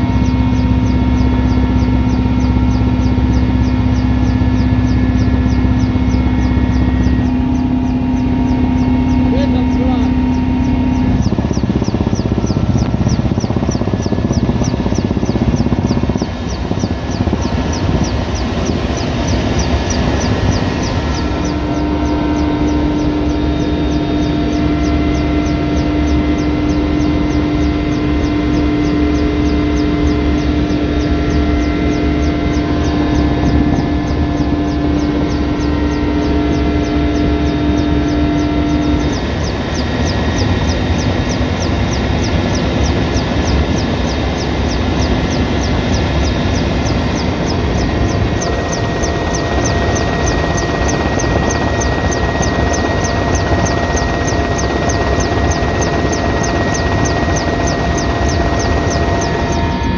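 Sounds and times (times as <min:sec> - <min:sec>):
helicopter engine and rotor drone: 0:00.0 - 0:59.9
steady hum: 0:00.0 - 0:59.9.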